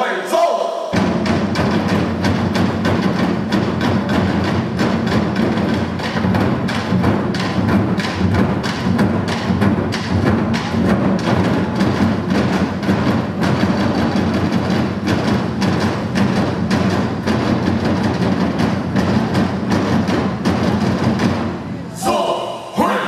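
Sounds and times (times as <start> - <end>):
barrel drums beating: 0.9 - 21.8.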